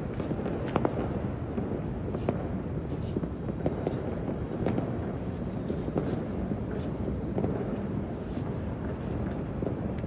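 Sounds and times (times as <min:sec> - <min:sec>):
distant fireworks booming: 0:00.0 - 0:10.0
sharp firework cracks: 0:00.0 - 0:10.0.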